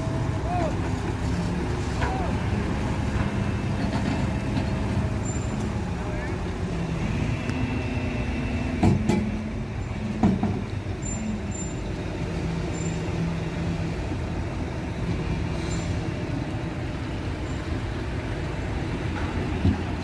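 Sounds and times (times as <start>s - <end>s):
diesel machinery humming: 0.0s - 20.0s.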